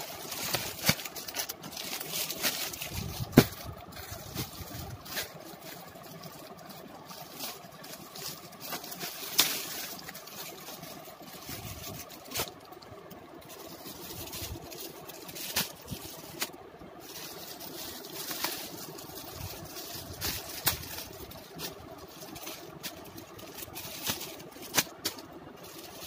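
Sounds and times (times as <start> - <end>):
background hum: 0.0 - 26.0
plastic packaging crinkling: 0.0 - 26.0.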